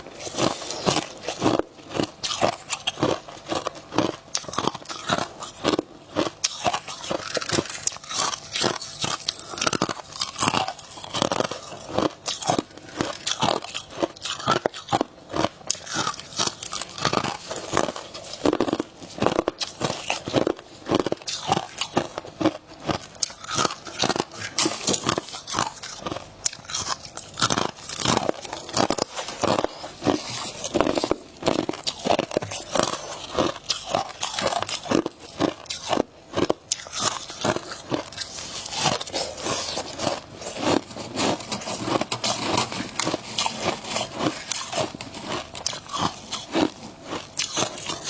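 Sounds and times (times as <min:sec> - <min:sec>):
crunching frost being chewed: 0:00.0 - 0:48.0.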